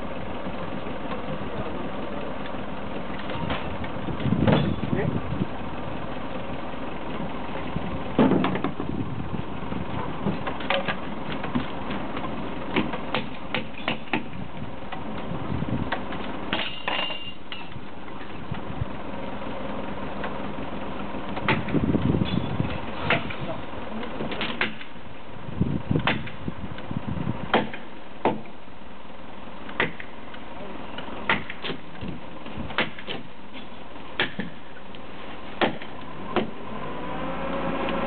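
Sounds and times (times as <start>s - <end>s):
engine running: 0.0s - 38.0s.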